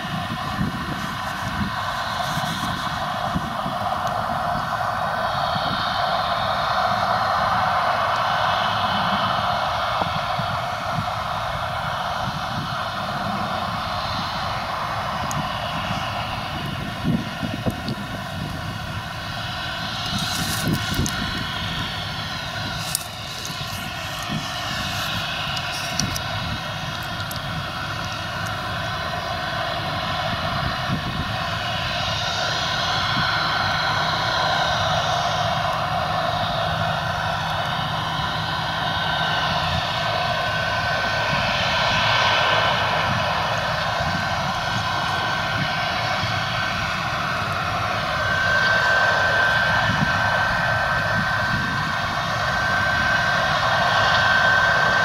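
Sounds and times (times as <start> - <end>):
combine harvester droning: 0.0 - 55.0
thin steady whine: 0.0 - 55.0.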